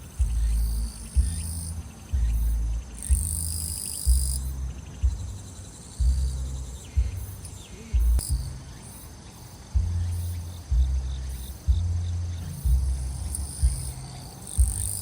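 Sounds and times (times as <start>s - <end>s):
bass-heavy music thumping: 0.0s - 8.8s, 9.7s - 15.0s
crickets trilling: 0.0s - 15.0s.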